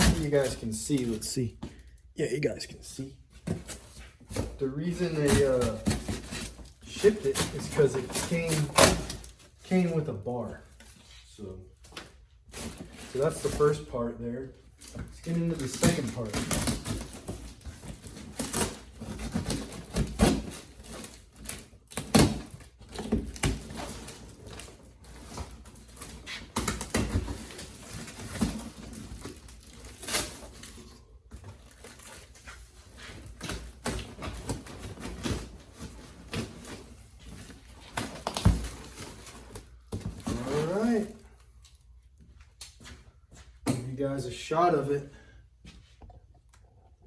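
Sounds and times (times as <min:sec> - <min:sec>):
box and packing foam rustling: 0:00.0 - 0:43.6.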